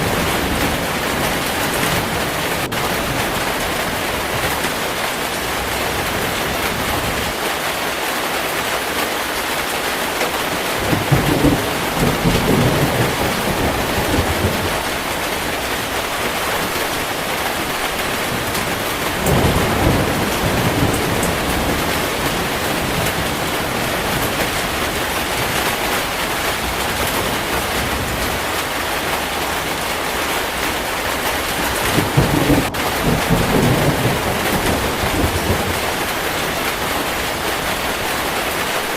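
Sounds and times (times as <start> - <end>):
thunder rumbling: 0.0 - 7.4, 10.1 - 38.9
heavy rain falling: 0.0 - 38.9.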